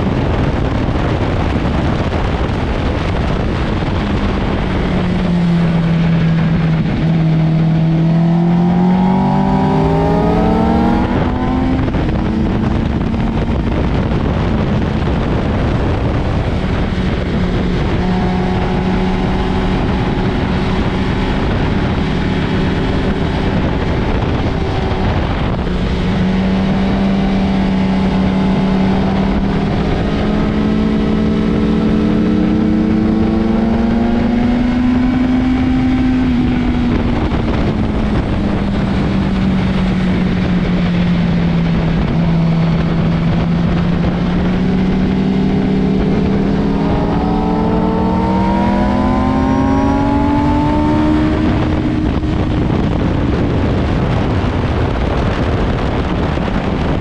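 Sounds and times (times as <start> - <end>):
motorcycle engine running hard: 0.0 - 57.0
wind noise: 0.0 - 57.0.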